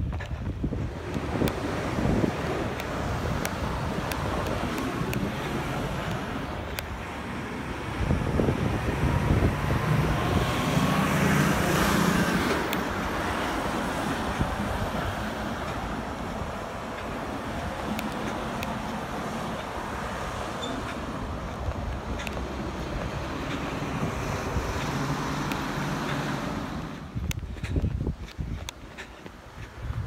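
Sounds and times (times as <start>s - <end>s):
road traffic: 0.0s - 30.0s
wind rumble on microphone: 0.0s - 30.0s
vehicle passing close: 0.7s - 27.3s.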